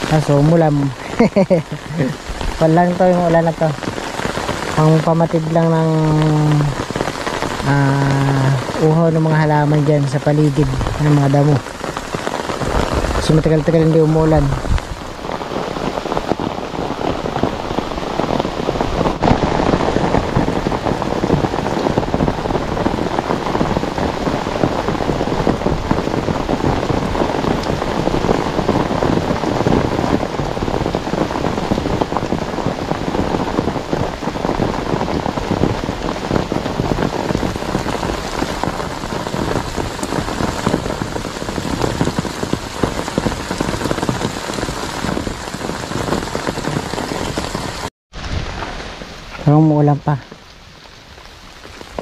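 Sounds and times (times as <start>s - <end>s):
rain pattering on umbrella: 0.0s - 52.0s.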